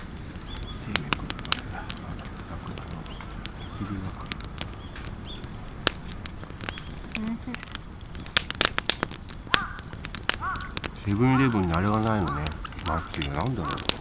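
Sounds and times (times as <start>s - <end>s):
wood campfire crackling: 0.0s - 14.0s.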